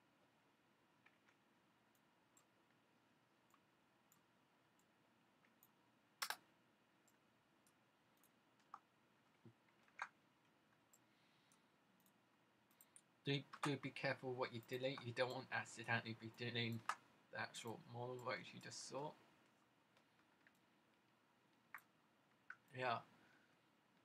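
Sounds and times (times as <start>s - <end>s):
computer mouse and keyboard clicks: 1.0s - 2.8s, 3.4s - 15.4s, 16.2s - 18.8s, 19.4s - 22.7s.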